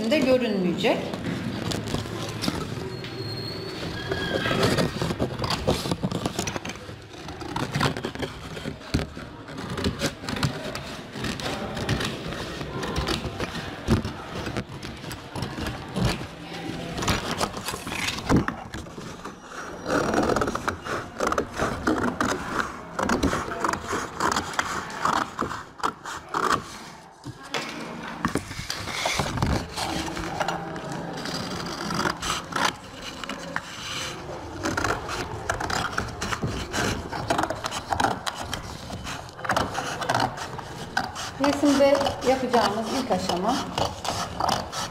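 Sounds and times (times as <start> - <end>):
paper rustling and scraping: 1.1 - 44.9
scissors snipping paper: 4.0 - 27.1, 28.3 - 44.9.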